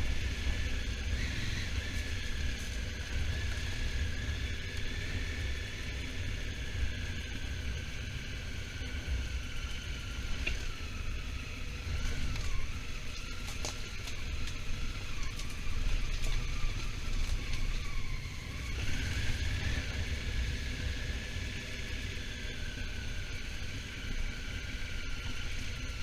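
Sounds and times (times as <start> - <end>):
motorcycle running: 0.0 - 26.0
steady whine: 0.0 - 26.0.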